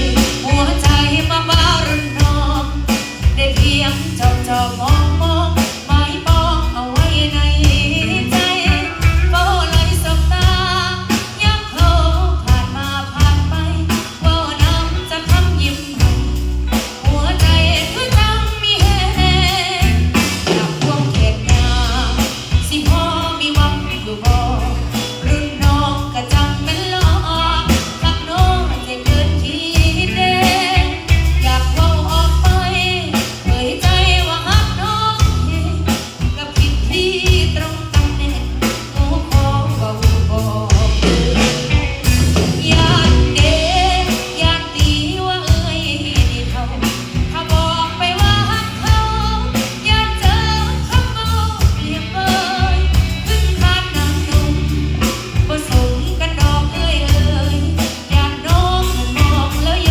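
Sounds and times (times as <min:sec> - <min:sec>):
live band playing: 0:00.0 - 0:59.9
person singing: 0:00.0 - 0:59.9.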